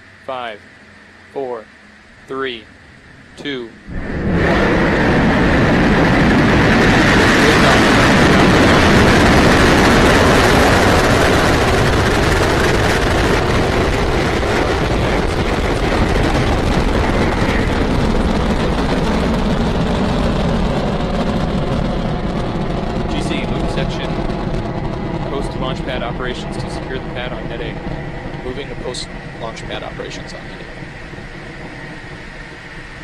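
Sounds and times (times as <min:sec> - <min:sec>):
rocket engines roaring: 0:00.0 - 0:33.0.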